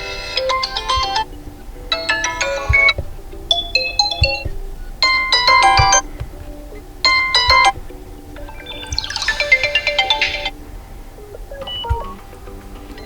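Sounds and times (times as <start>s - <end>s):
phone ringtone chiming melody: 0.0s - 13.0s
soft sustained backing tone: 0.0s - 13.0s.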